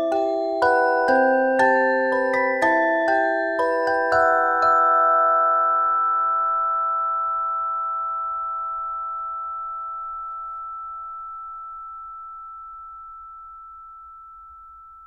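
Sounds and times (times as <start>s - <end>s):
bell-like mallet chord ringing: 0.0s - 15.0s.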